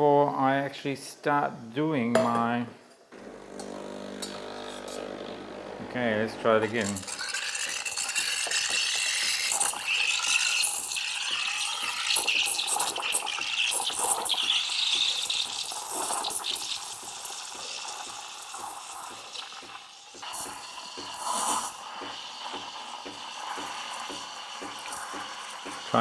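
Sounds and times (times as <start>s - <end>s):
steam wand hissing into milk: 3.5s - 26.0s.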